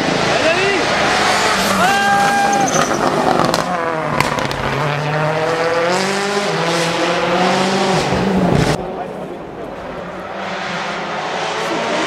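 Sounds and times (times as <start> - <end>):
rally car engine revving hard: 0.0 - 12.0.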